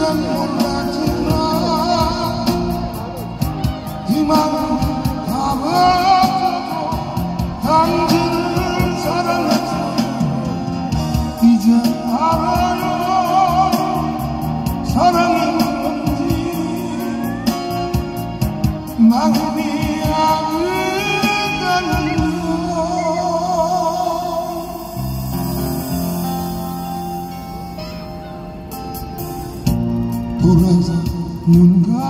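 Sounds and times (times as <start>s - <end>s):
man singing ballad: 0.0s - 26.8s, 30.3s - 32.0s.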